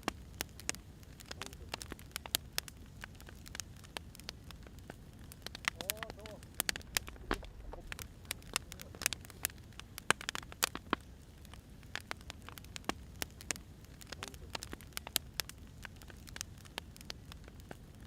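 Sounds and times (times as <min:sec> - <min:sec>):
low steady rumble: 0:00.0 - 0:17.5
firewood crackling and popping: 0:00.0 - 0:18.0.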